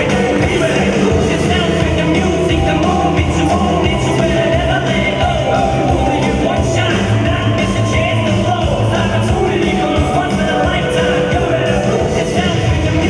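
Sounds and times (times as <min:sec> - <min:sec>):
rock music with singing: 0:00.0 - 0:13.0.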